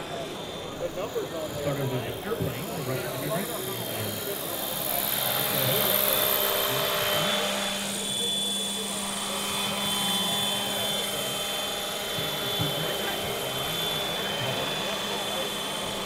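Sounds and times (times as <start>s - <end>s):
model helicopter whine: 0.0s - 16.0s
rotor whirring: 0.0s - 16.0s.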